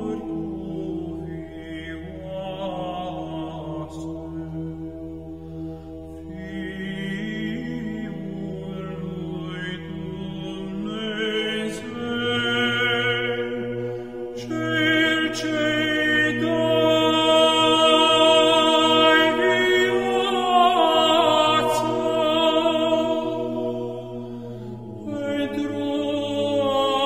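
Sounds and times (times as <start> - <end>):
voices chanting a slow melody: 0.0 - 27.0.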